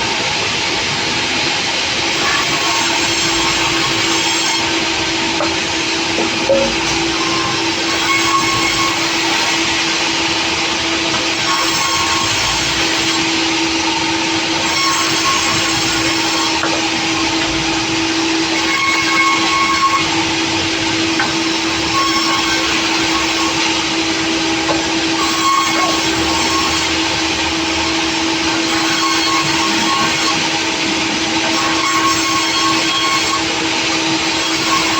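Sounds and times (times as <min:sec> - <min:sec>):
high saw whine: 0:00.0 - 0:34.9
sawmill saw cutting wood: 0:00.0 - 0:34.9.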